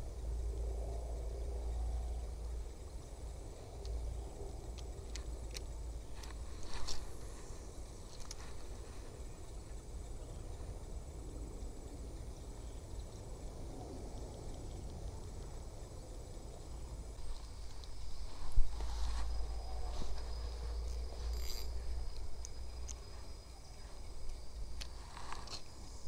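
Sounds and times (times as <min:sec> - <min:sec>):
high insect whine: 0:00.0 - 0:26.0
wind rumble on microphone: 0:00.0 - 0:26.0.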